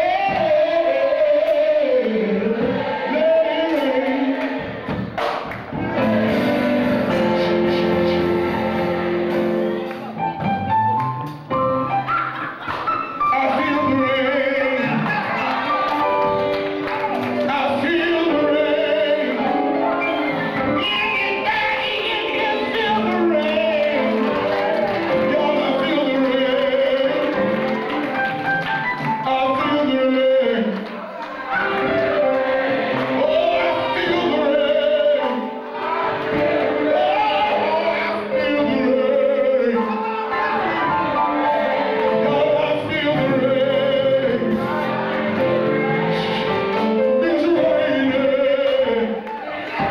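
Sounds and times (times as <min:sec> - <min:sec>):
gospel singing into a microphone: 0:00.0 - 0:10.4, 0:13.2 - 0:49.9
instrumental accompaniment: 0:00.0 - 0:30.2, 0:31.3 - 0:49.9.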